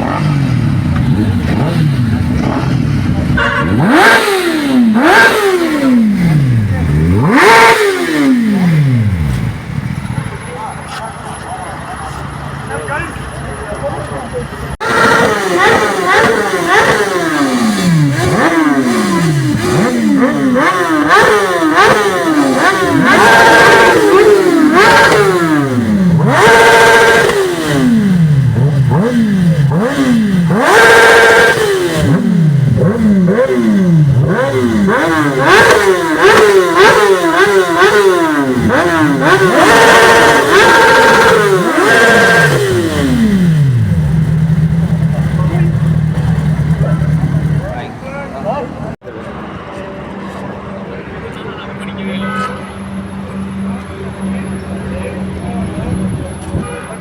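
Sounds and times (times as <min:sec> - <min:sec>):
motorcycles revving and passing: 0:00.0 - 0:13.6, 0:14.4 - 0:49.5.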